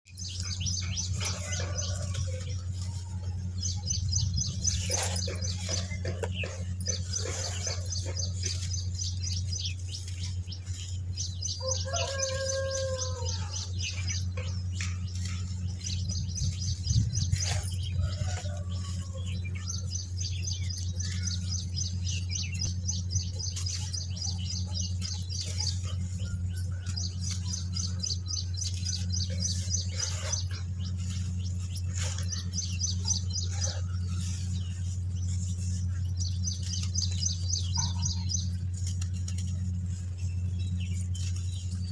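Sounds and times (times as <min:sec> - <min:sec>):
small birds chirping: 0:00.0 - 0:41.9
steady low hum: 0:00.1 - 0:41.9.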